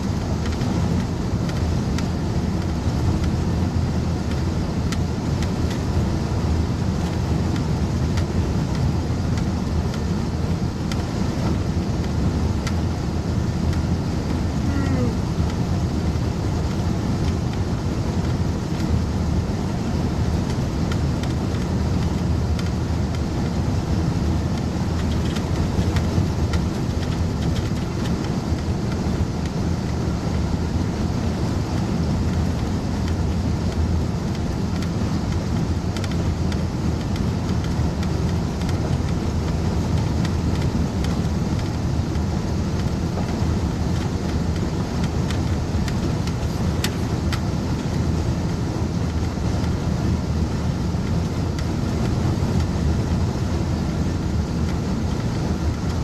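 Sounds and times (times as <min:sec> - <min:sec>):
truck engine and tyre rumble: 0:00.0 - 0:56.0.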